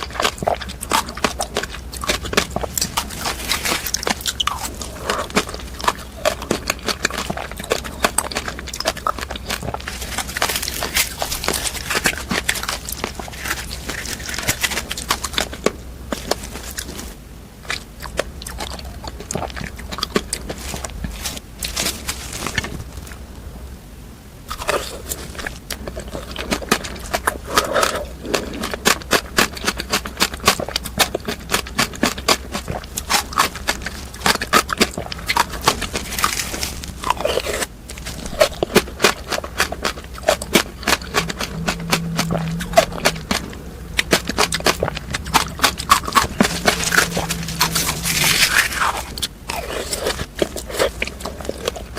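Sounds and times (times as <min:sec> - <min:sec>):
crunching frozen fruit: 0:00.0 - 0:23.2, 0:24.5 - 0:51.9.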